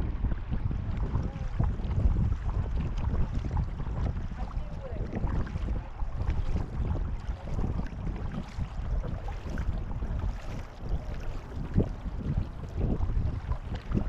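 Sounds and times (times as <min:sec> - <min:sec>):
water lapping against canoe hull: 0:00.0 - 0:14.0
wind buffeting microphone: 0:00.0 - 0:14.0.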